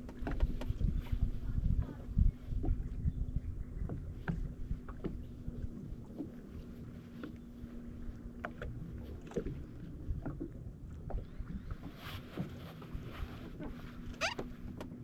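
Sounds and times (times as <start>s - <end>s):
water slapping against hull: 0.0s - 15.0s.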